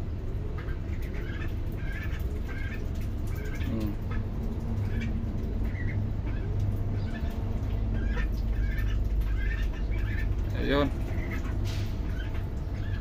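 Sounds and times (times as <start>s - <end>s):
ducklings peeping: 0.4s - 13.0s.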